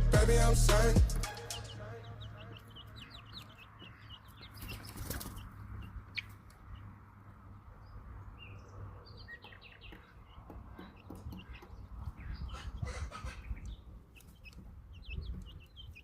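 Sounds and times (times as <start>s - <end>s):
chicks peeping: 0.2s - 16.0s.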